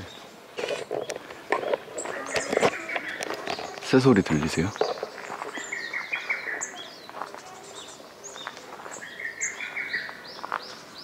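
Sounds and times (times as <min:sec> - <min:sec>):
wild birds singing: 0:00.0 - 0:11.0.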